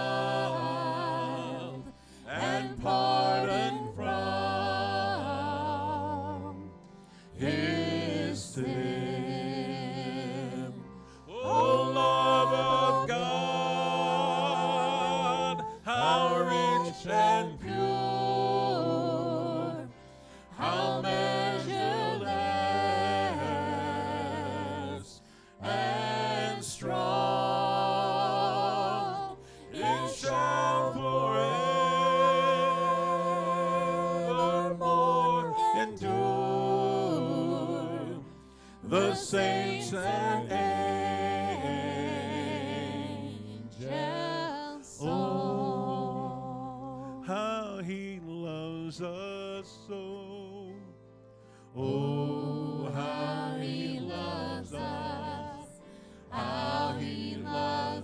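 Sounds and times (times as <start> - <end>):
group singing a slow hymn: 0.0 - 58.0.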